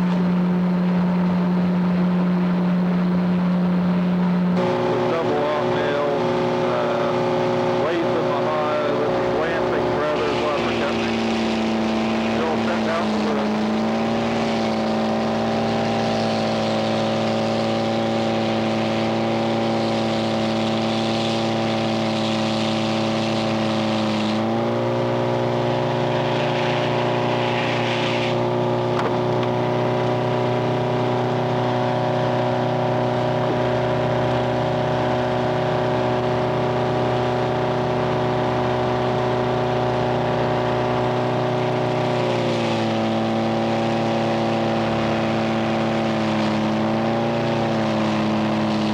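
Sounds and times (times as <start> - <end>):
sawmill engine and saw hum: 0.0 - 48.9.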